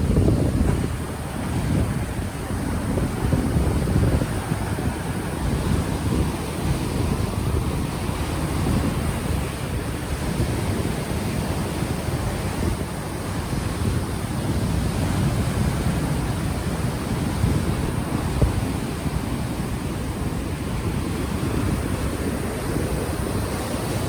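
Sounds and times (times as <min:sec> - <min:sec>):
ocean waves washing ashore: 0:00.0 - 0:24.0
wind buffeting microphone: 0:00.0 - 0:24.0.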